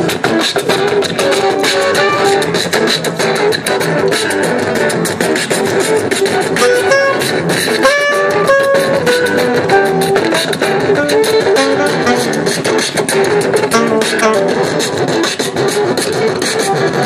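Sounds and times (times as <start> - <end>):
beatboxing: 0.0 - 17.0
electric bass: 0.0 - 17.0
electric guitar: 0.0 - 17.0.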